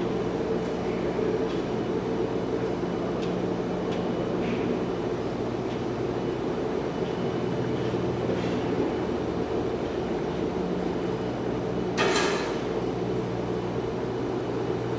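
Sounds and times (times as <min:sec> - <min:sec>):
steady mechanical hum: 0:00.0 - 0:14.9.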